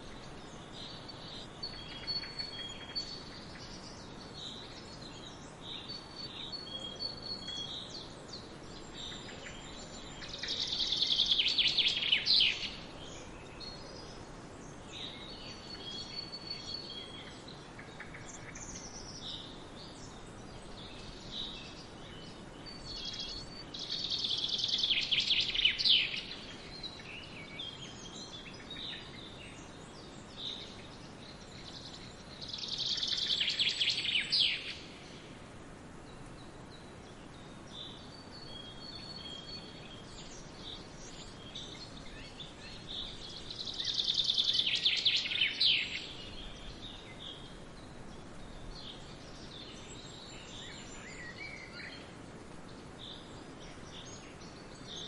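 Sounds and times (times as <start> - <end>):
bird song: 0.0 - 55.0
steady faint hiss: 0.0 - 55.0.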